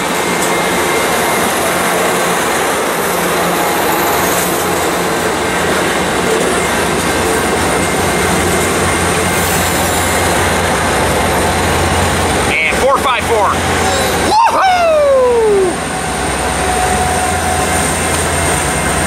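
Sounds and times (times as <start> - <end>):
locomotive engine hum: 0.0 - 19.0
train wheels rumbling on rails: 0.0 - 19.0.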